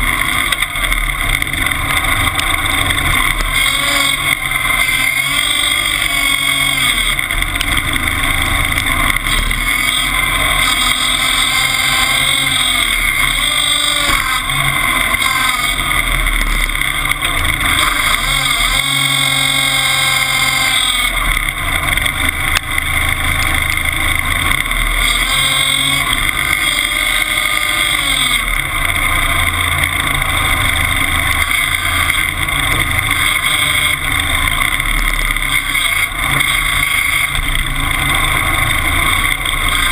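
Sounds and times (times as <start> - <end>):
skidder engine droning: 0.0 - 39.9.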